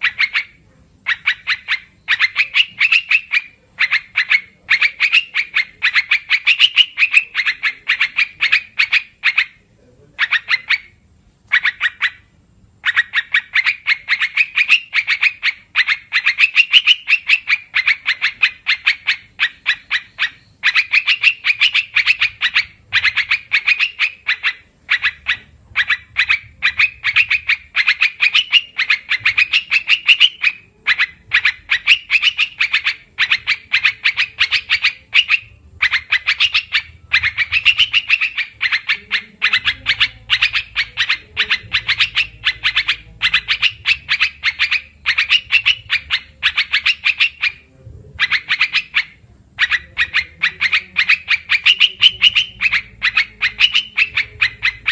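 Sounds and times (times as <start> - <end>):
bulbul high chattering calls: 0.0 - 9.6, 10.2 - 47.6, 48.2 - 54.9.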